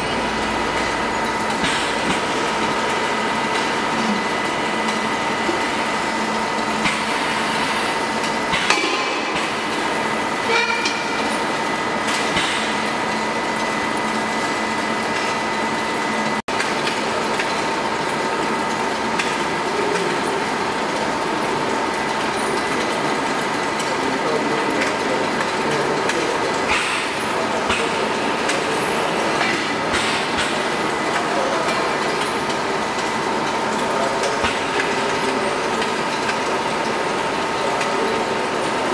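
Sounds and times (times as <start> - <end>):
factory hum: 0.0 - 38.9.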